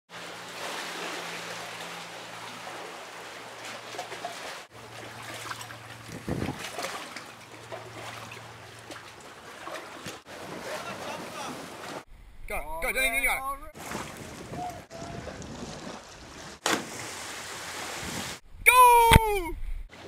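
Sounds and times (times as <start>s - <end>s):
seawater lapping among rocks: 0.1s - 12.1s, 13.7s - 18.5s.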